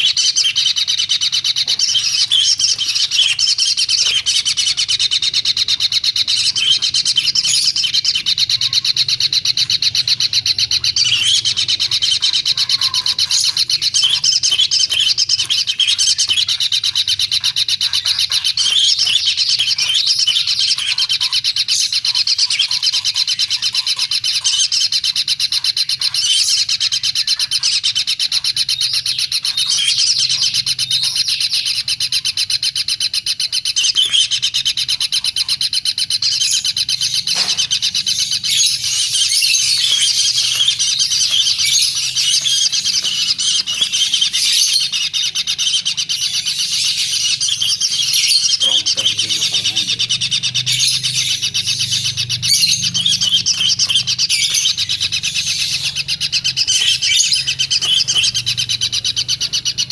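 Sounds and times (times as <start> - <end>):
chick begging chatter: 0.0 - 59.9.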